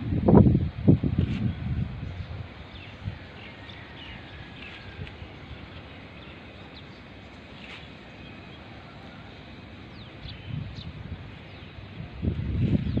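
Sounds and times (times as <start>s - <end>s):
city ambience rumble: 0.0s - 13.0s.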